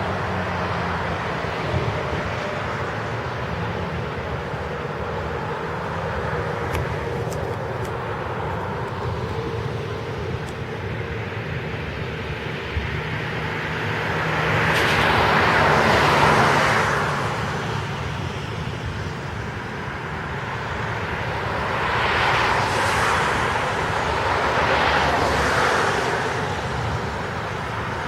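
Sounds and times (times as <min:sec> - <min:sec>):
traffic: 0:00.0 - 0:28.0
tyres hissing on wet road: 0:00.0 - 0:28.0.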